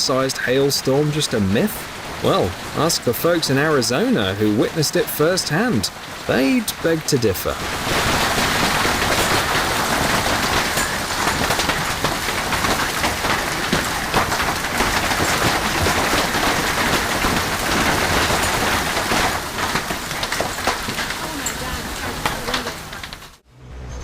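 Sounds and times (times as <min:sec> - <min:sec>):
hail clattering on hard surfaces: 0:00.0 - 0:23.4.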